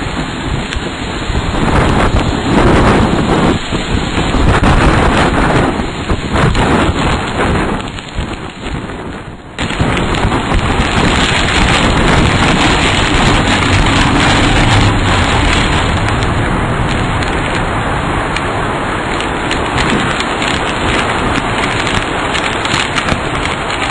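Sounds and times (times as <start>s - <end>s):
heavy rain: 0.0s - 23.9s
storm wind: 0.0s - 23.9s.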